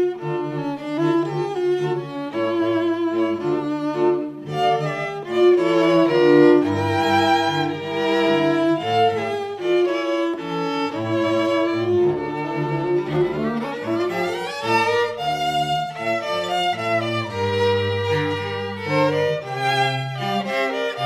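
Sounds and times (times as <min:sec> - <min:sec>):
bowed string music: 0:00.0 - 0:21.0.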